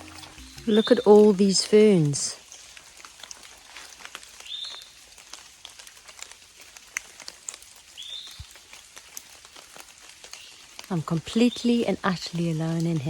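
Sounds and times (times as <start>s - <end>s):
rain pattering on foliage: 0.0s - 13.0s.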